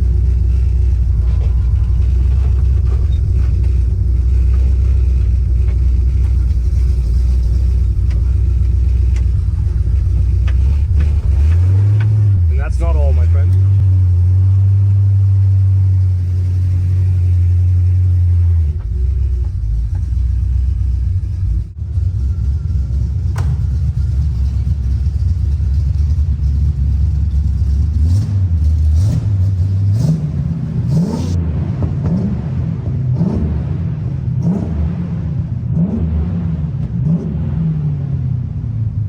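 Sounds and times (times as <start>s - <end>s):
car engine rumbling and revving: 0.0s - 39.0s.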